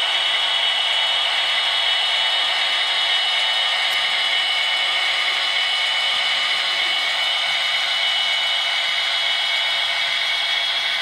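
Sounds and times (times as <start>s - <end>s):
thin diesel engine drone from small speaker: 0.0s - 11.0s.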